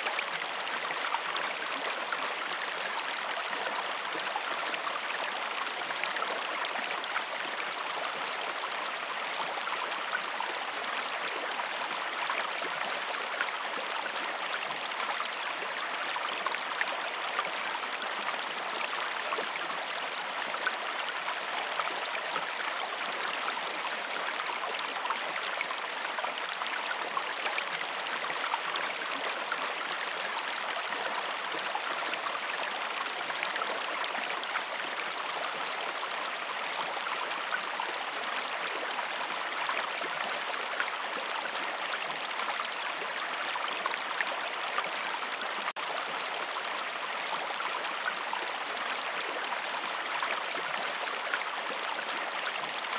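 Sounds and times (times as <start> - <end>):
stream flowing over rocks: 0.0 - 52.9.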